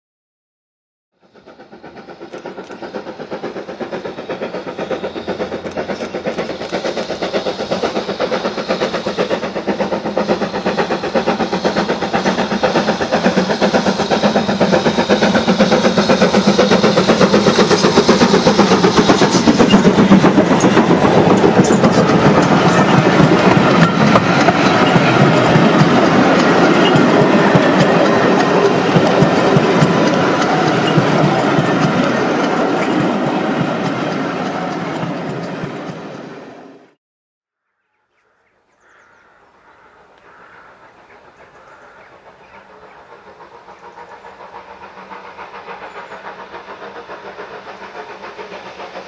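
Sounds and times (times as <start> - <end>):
steam train running: 1.2 - 37.0, 38.4 - 49.0.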